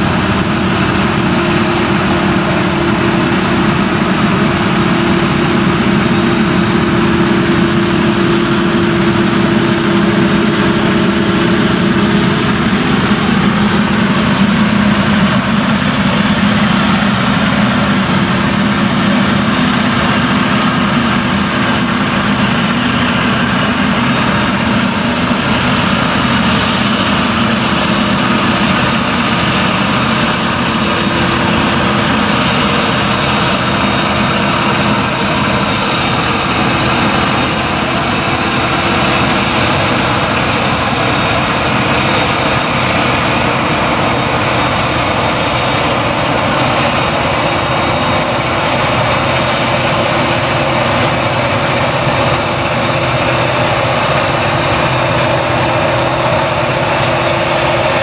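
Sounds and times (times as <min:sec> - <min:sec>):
forage harvester engine and chopper: 0:00.0 - 0:58.0
tractor engine: 0:00.0 - 0:58.0.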